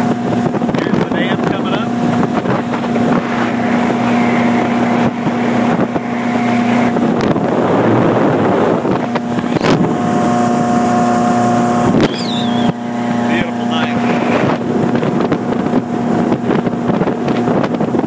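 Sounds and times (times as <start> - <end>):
boat engine hum: 0.0 - 18.0
wind and water rushing: 0.0 - 18.0.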